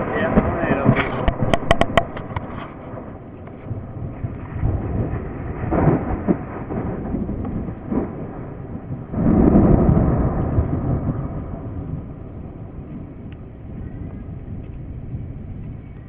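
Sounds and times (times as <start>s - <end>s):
low storm rumble: 0.0s - 16.0s
thunder rolling: 0.0s - 16.0s.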